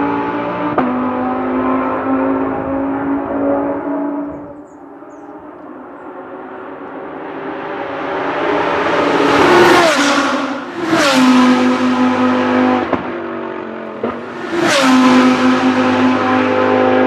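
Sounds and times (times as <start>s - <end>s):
race cars passing at speed: 0.0s - 17.0s.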